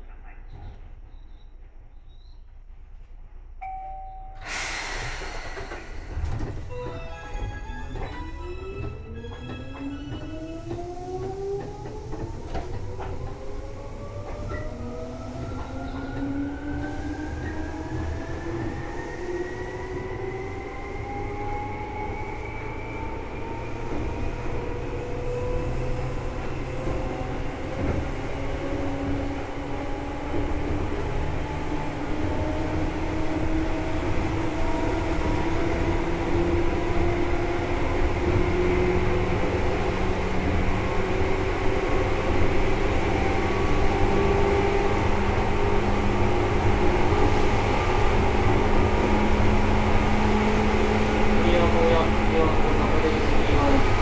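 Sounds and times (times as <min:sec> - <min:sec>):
wheel and rail rumble: 0:04.4 - 0:54.0.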